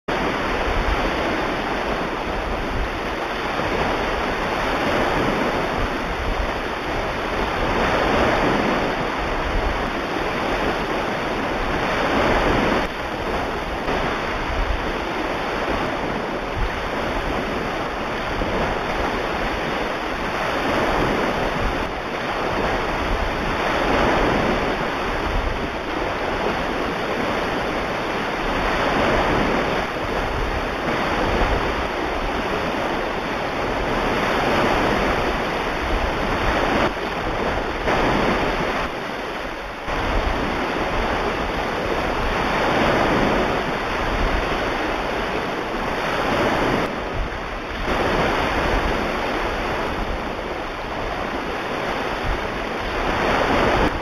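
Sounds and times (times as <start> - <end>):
ocean waves: 0.1 - 54.0.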